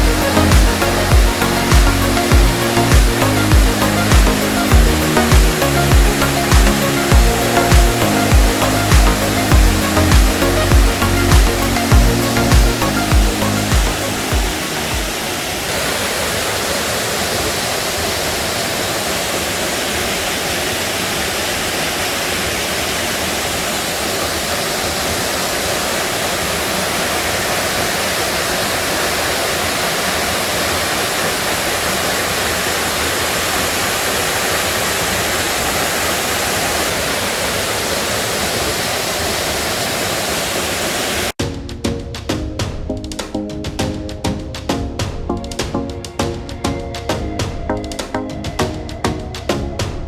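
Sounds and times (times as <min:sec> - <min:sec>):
waterfall rushing: 0:00.0 - 0:41.4.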